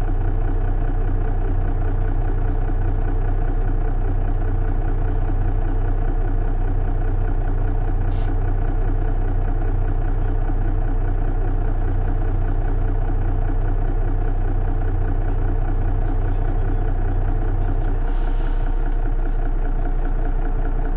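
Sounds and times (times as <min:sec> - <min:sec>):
bus diesel engine humming: 0:00.0 - 0:20.9.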